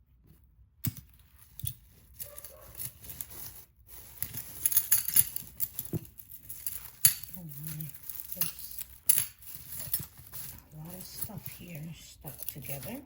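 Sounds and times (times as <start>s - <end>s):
jewelry clicking and clinking: 0.8s - 13.0s.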